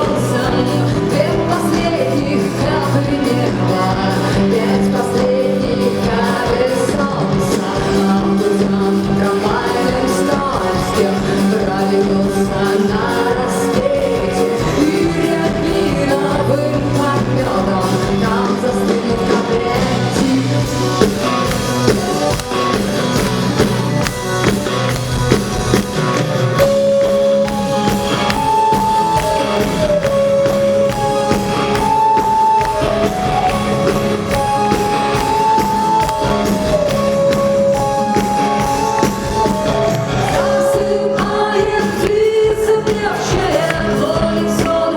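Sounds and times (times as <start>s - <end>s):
drums keeping steady beat: 0.0s - 44.9s
rock band playing live: 0.0s - 44.9s.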